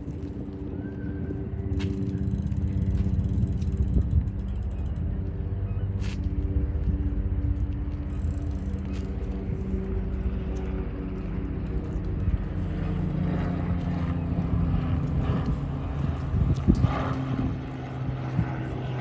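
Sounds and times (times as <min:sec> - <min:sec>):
engine drone with low rumble: 0:00.0 - 0:19.0.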